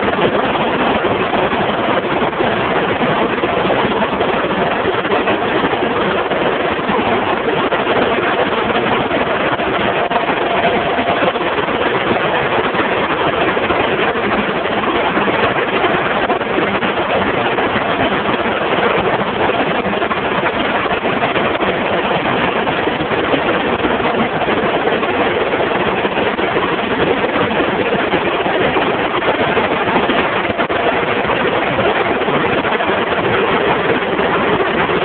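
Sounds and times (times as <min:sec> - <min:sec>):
printing press mechanical din: 0:00.0 - 0:35.0.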